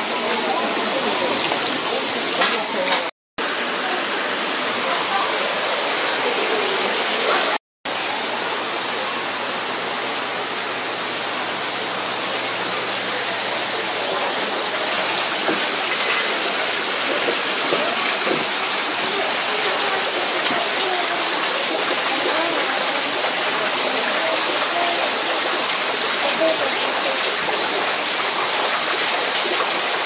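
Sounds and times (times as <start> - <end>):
waterfall and stream rushing: 0.0 - 30.0.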